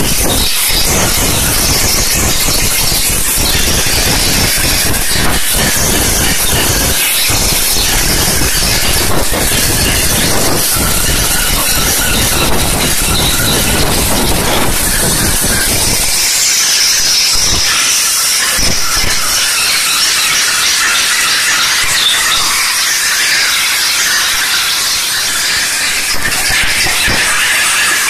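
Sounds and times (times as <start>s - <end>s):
steam jet hissing: 0.0s - 28.0s.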